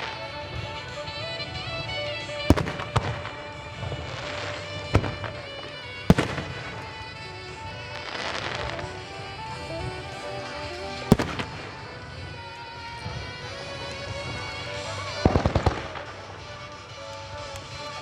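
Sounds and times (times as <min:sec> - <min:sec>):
background music melody: 0:00.0 - 0:18.0
firework shells bursting: 0:00.0 - 0:18.0.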